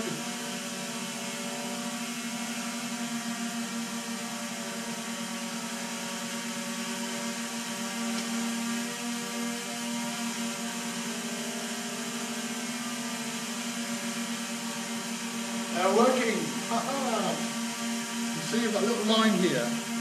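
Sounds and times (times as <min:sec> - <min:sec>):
drone propellers whining: 0:00.0 - 0:11.5, 0:12.9 - 0:20.0.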